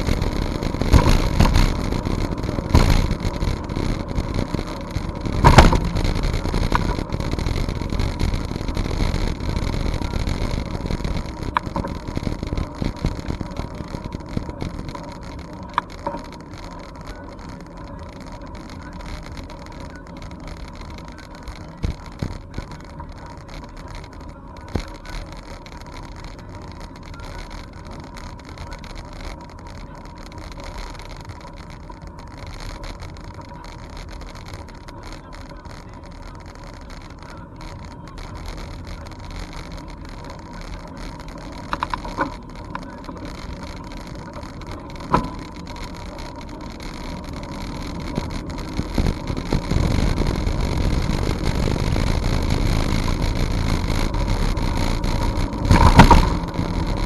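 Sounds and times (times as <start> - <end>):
bicycle knocking over bumps: 0.0 - 57.0.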